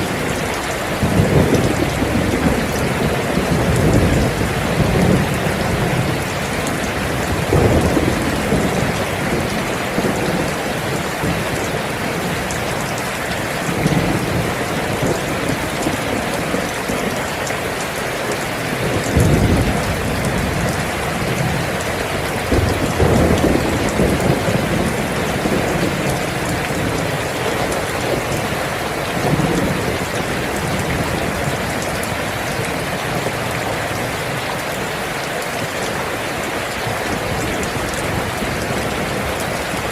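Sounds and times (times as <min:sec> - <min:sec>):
thunder rumbling: 0:00.0 - 0:34.6
heavy rain: 0:00.0 - 0:39.9.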